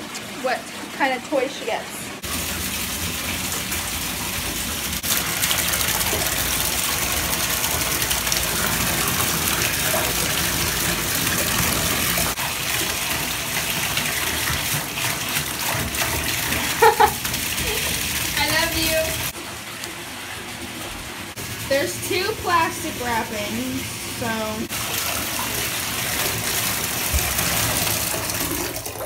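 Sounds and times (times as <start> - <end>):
water gushing into bathtub: 0.0 - 29.0.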